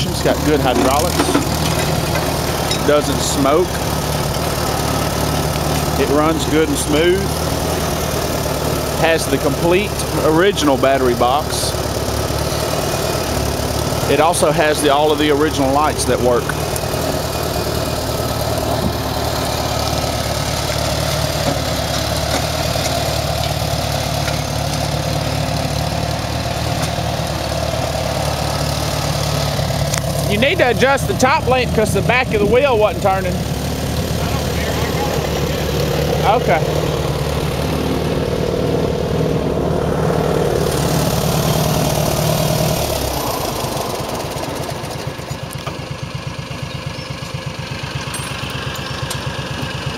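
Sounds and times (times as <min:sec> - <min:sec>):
tractor engine running steadily: 0:00.0 - 0:49.9.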